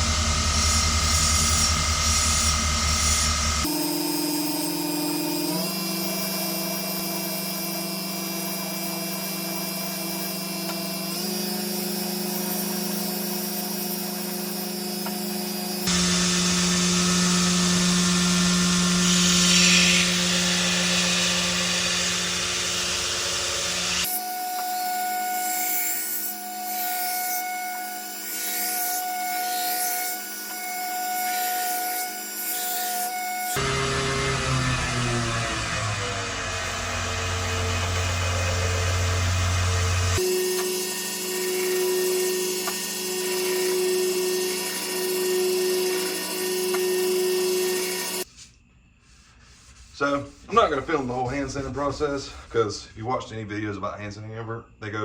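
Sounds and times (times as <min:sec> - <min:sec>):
electric grinder motor humming: 0:00.0 - 0:48.3.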